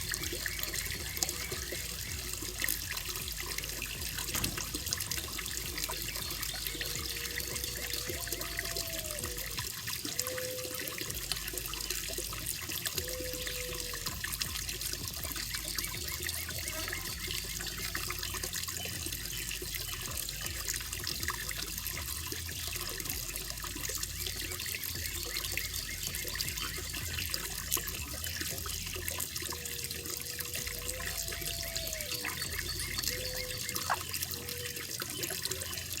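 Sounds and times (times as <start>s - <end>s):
low pitched notes: 0.0s - 36.0s
pond water trickling: 0.0s - 36.0s.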